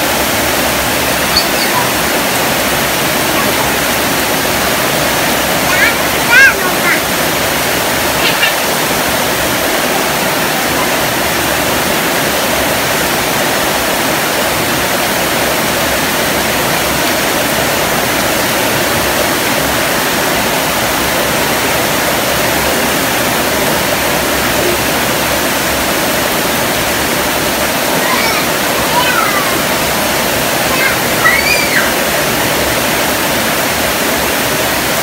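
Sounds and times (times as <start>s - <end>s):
heavy rain on rooftops: 0.0s - 35.0s.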